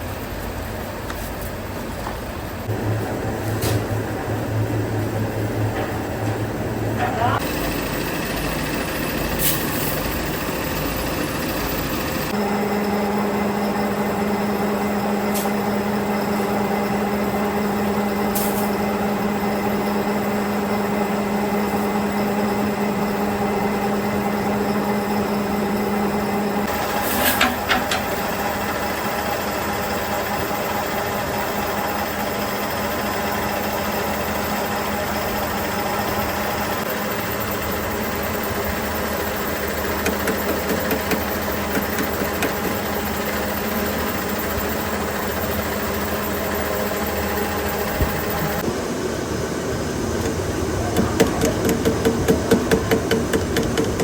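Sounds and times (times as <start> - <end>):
factory machinery humming: 0.0 - 54.0.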